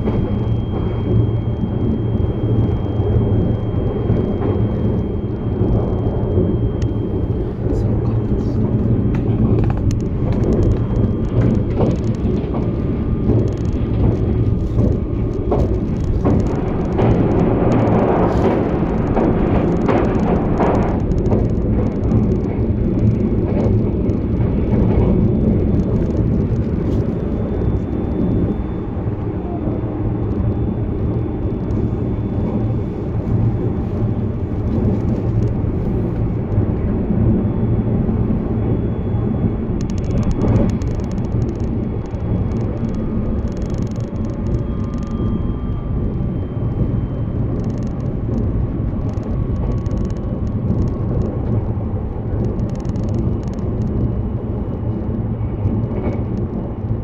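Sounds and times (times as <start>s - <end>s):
faint whining tones: 0.0s - 57.0s
wheels rumbling on rail: 0.0s - 57.0s.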